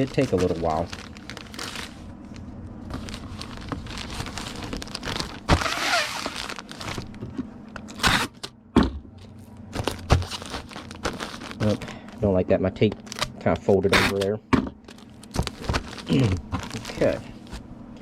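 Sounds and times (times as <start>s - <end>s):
plastic ripping: 0.0s - 2.0s, 2.8s - 8.5s, 9.7s - 17.6s
plastic mailer crinkling: 0.0s - 8.4s, 9.4s - 17.6s.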